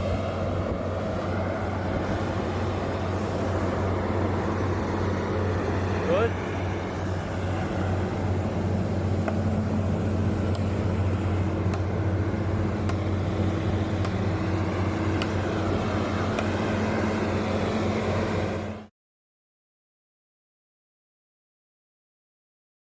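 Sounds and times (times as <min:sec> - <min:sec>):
drilling rig engine drone: 0:00.0 - 0:18.9.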